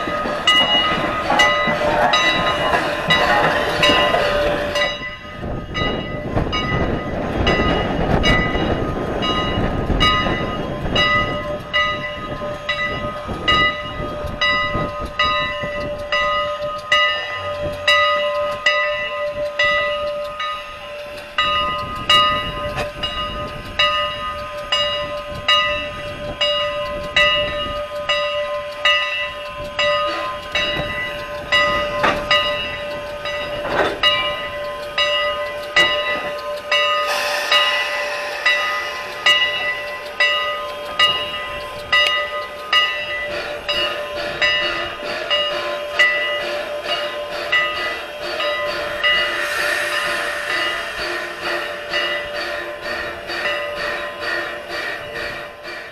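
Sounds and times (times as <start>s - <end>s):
locomotive bell ringing: 0.0s - 55.9s
steam engine rumble and hiss: 0.0s - 55.9s.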